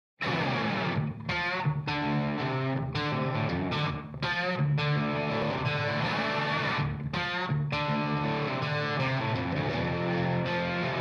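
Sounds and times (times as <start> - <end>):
distorted electric guitar music: 0.2 - 11.0.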